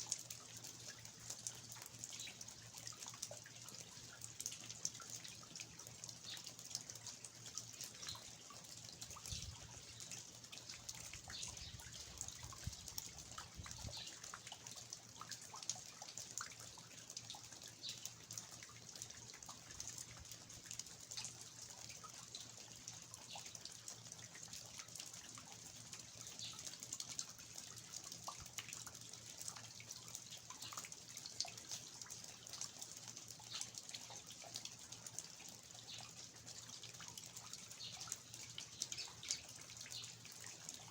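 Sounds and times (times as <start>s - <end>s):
water dripping from eaves: 0.0s - 40.9s.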